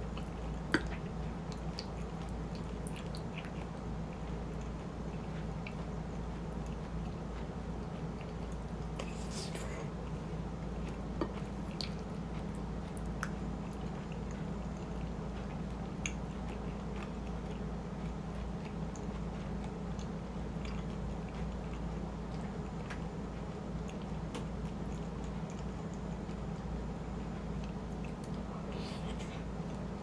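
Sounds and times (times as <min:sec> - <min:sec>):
chewing food: 0:00.0 - 0:30.0
steady low hum: 0:00.0 - 0:30.0.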